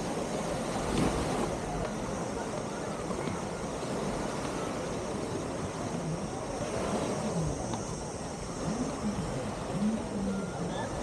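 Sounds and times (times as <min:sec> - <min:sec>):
distant chatter of beachgoers: 0:00.0 - 0:11.0
surf: 0:00.0 - 0:11.0
wind: 0:00.0 - 0:11.0.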